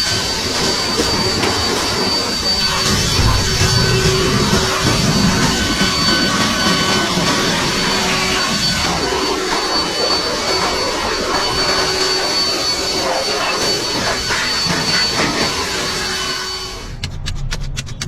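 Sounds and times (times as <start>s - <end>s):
leaf blower running: 0.0s - 16.9s.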